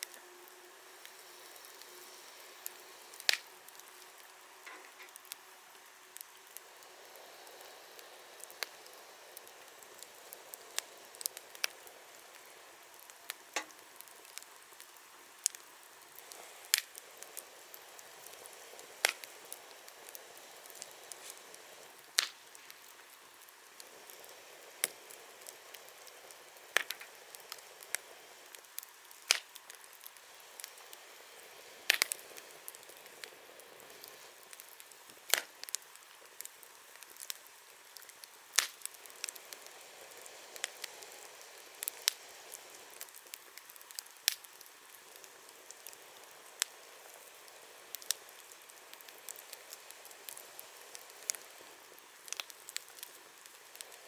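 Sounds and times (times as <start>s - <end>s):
firewood crackling and popping: 0.0s - 54.0s
wood fire hissing: 0.0s - 54.0s.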